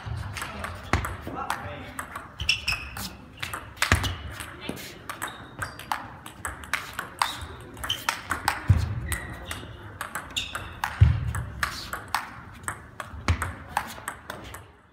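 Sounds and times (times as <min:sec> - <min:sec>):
table tennis ball clicks: 0:00.3 - 0:14.7.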